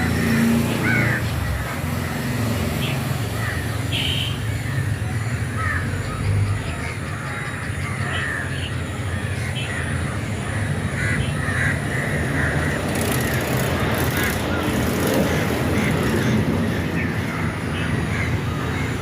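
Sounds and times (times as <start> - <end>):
crows cawing: 0.0 - 19.0.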